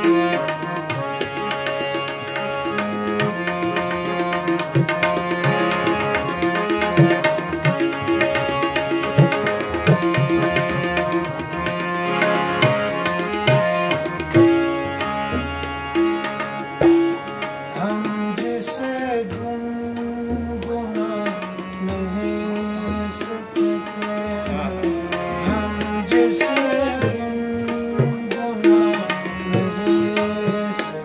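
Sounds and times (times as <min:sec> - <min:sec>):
harmonium notes and chords: 0:00.0 - 0:31.0
tabla strokes: 0:00.0 - 0:31.0.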